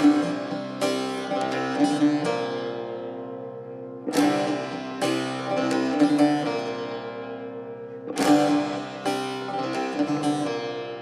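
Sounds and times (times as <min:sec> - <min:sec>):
plucked long-necked lute melody: 0:00.0 - 0:11.0.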